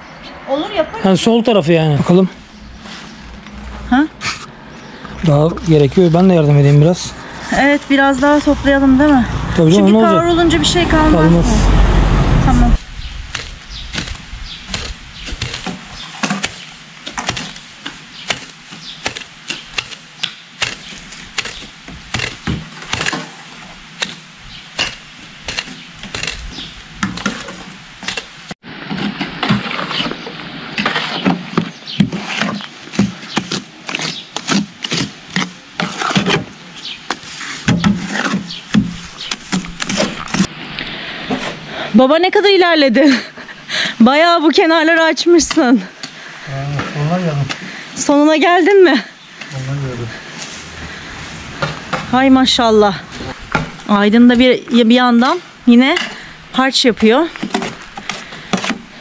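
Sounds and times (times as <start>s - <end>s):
leaves rustling: 0.0s - 59.0s.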